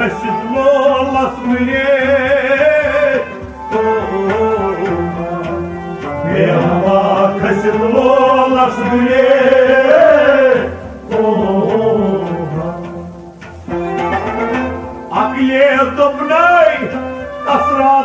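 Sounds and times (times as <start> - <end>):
devotional singing: 0.0 - 13.5, 15.1 - 18.0
hand drum beat: 0.8 - 15.6.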